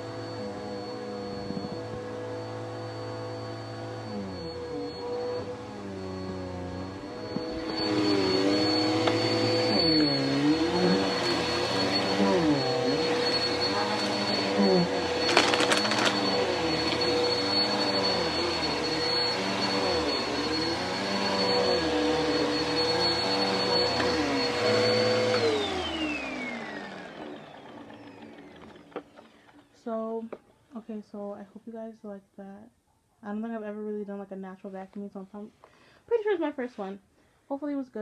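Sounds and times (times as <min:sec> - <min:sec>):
vacuum cleaner whine: 0:00.0 - 0:30.4.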